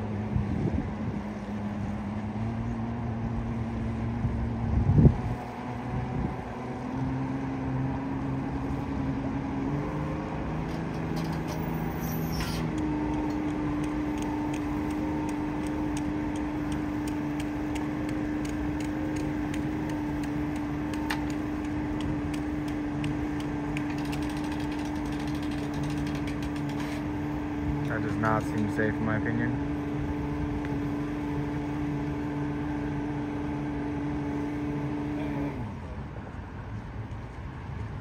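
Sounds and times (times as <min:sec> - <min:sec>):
outboard motor running: 0:00.0 - 0:33.9.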